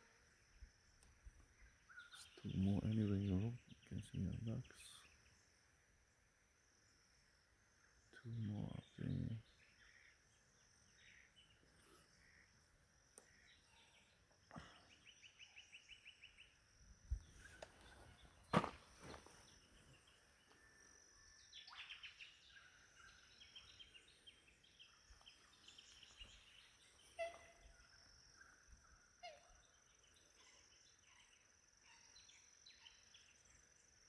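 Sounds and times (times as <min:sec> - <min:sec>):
faint bird calls: 0:00.0 - 0:05.5, 0:08.0 - 0:33.6.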